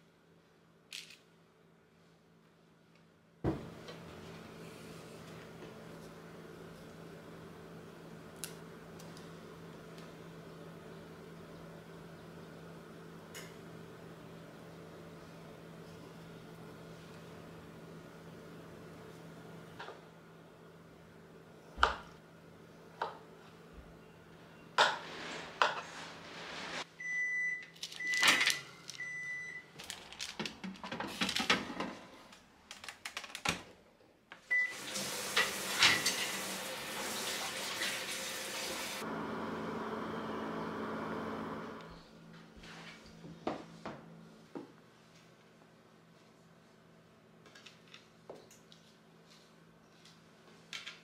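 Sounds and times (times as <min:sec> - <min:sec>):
oven whirring hum: 0:03.4 - 0:32.4, 0:34.5 - 0:47.4.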